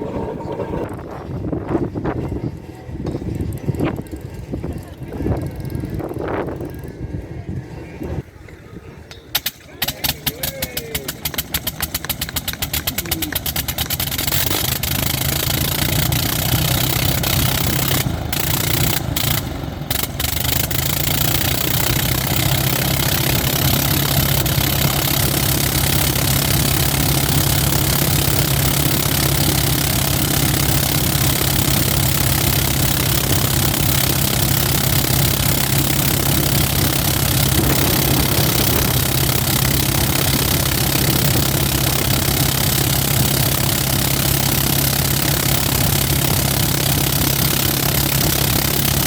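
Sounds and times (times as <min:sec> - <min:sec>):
rotary aero engine running up: 0:00.0 - 0:08.1, 0:09.8 - 0:49.0.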